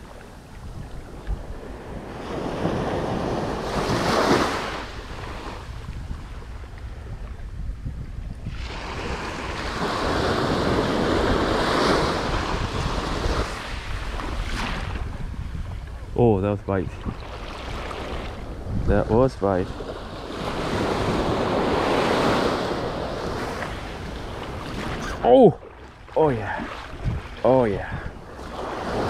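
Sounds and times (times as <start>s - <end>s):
ocean surf breaking on beach: 0.0s - 6.6s, 8.5s - 15.2s, 17.2s - 29.0s
wind rumble on microphone: 0.0s - 29.0s.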